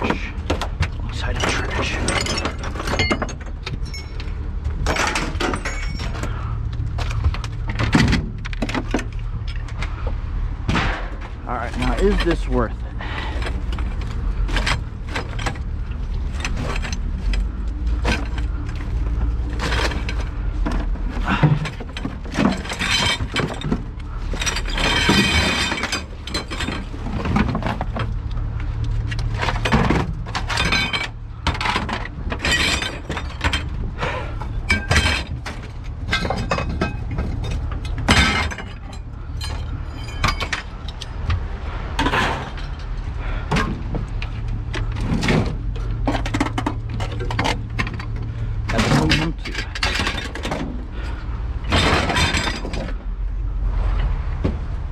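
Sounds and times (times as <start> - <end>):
scrap metal clanking and crashing: 0.0 - 54.5
steady low rumble: 0.0 - 54.9.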